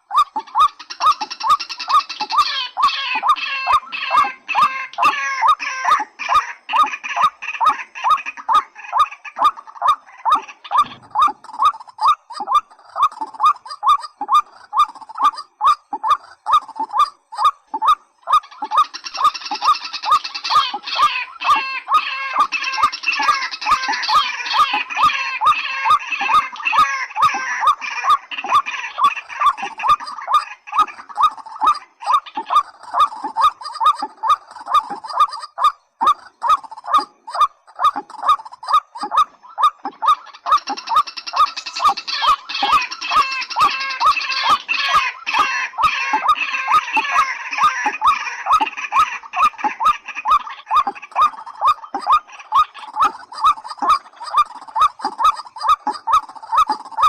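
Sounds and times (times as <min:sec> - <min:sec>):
bird calling rising notes: 0:09.4 - 0:57.0.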